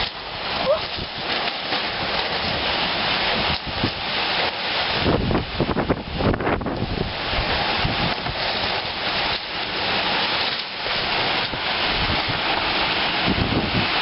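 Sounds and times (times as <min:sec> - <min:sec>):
heavy rain pouring: 0:00.0 - 0:14.0
strong wind gusts: 0:00.0 - 0:14.0.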